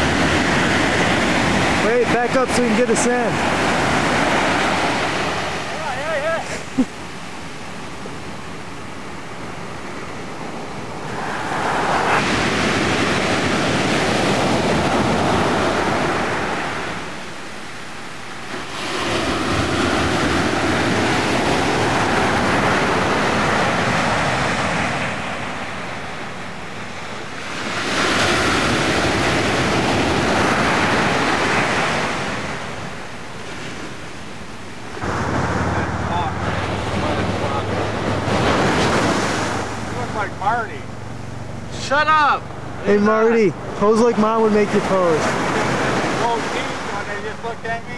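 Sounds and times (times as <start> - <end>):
ocean surf breaking on beach: 0.0 - 47.9.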